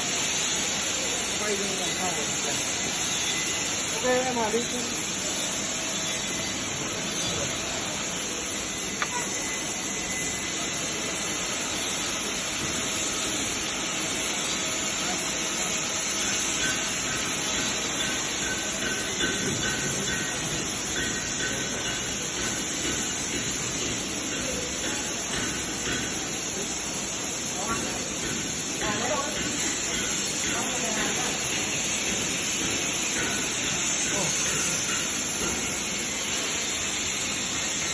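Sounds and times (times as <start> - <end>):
welding arc hissing: 0.0 - 37.9.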